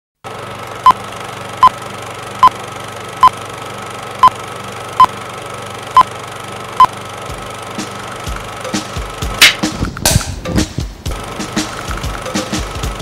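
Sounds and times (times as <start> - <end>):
steady hum and whir: 0.2 - 13.0.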